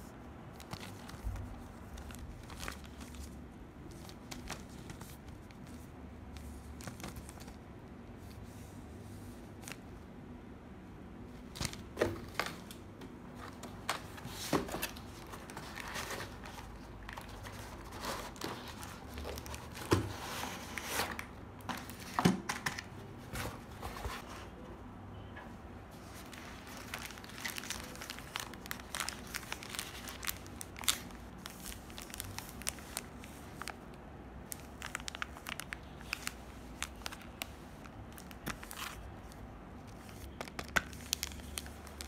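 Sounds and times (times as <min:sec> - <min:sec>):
plastic bags crinkling: 0:00.5 - 0:05.8, 0:11.4 - 0:24.2, 0:26.0 - 0:42.0.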